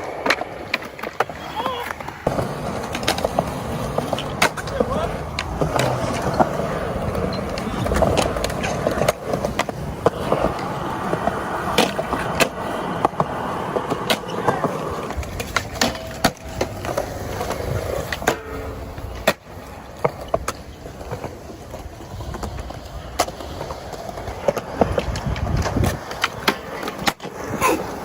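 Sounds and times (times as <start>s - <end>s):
skateboard clacking on ground: 0.0s - 28.0s
skateboard wheels rolling: 0.0s - 28.0s.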